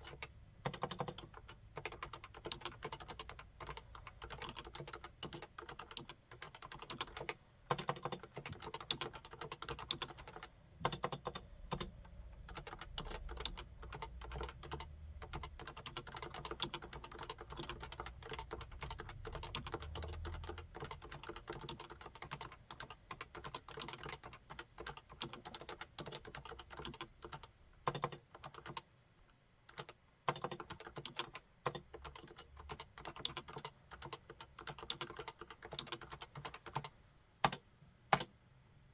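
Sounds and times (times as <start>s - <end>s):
fast typing on a keyboard: 0.0s - 28.8s, 29.7s - 38.3s.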